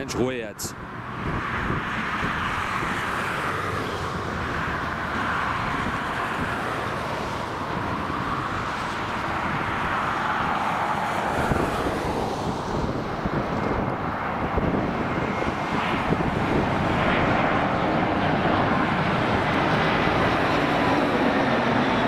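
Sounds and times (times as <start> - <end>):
jet airliner rushing noise: 0.0 - 22.0.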